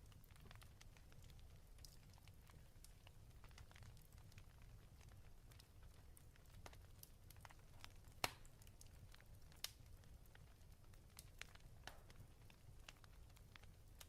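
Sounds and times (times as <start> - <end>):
fireplace crackling and popping: 0.0 - 14.0.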